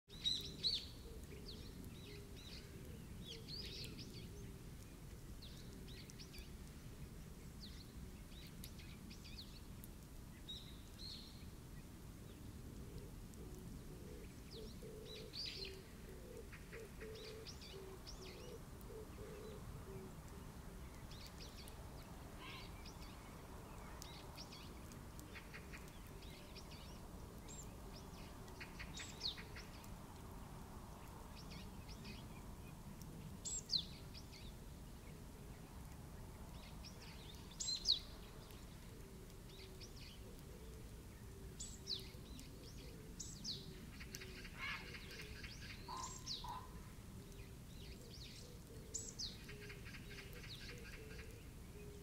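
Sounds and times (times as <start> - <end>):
birds chirping and calling: 0.1 - 9.6, 12.4 - 30.0, 33.4 - 52.0
lower pulsed bird calls: 0.1 - 52.0.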